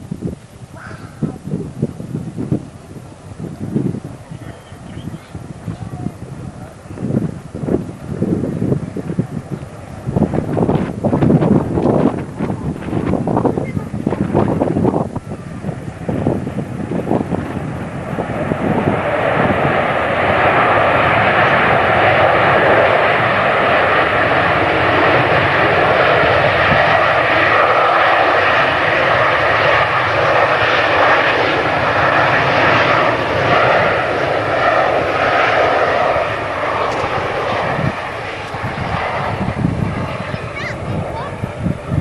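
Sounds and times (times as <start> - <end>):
airliner engines roaring: 0.0 - 42.0.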